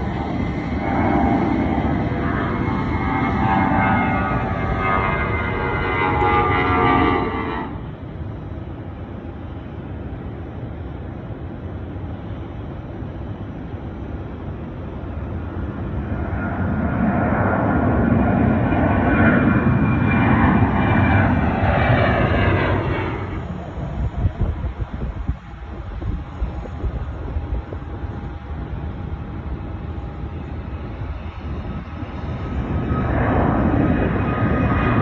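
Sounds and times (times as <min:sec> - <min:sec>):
distant jet rumble: 0:00.0 - 0:35.0
jet engine approaching: 0:00.0 - 0:35.0
jet engine high whine: 0:00.0 - 0:35.0.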